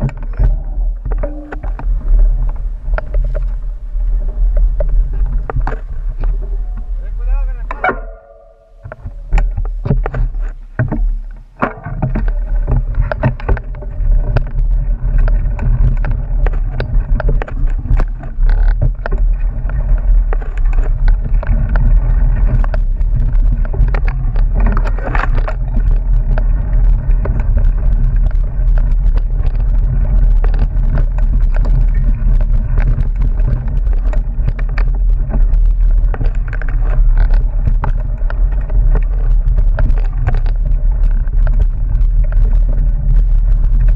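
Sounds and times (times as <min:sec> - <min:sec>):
bike rattling over stones: 0:00.0 - 0:43.9
wind rumble on microphone: 0:00.0 - 0:43.9.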